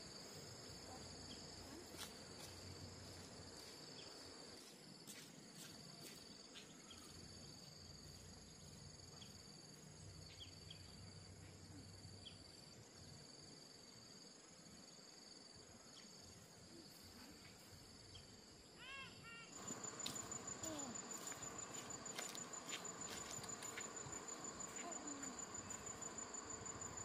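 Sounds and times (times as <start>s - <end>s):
crickets trilling: 0.0s - 27.0s.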